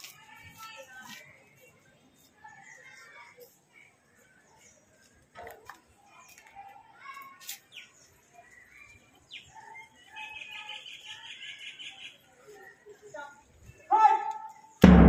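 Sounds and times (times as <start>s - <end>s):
faint distant voices: 0.0s - 14.8s.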